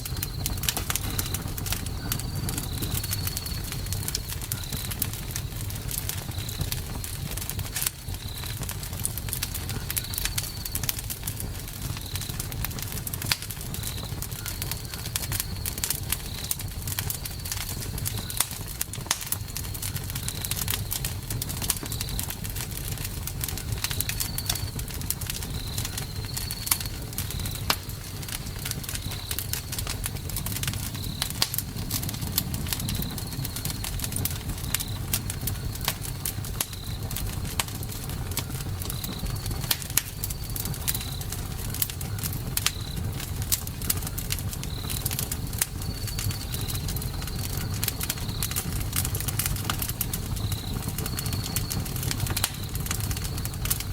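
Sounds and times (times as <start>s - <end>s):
low rumble of flames: 0.0s - 53.9s
wood crackling and popping: 0.0s - 53.9s.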